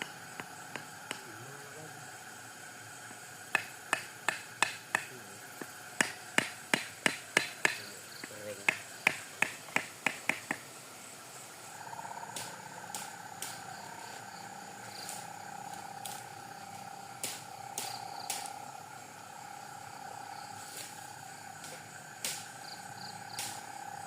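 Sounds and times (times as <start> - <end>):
pulsing trill of night wildlife: 0.0 - 24.0.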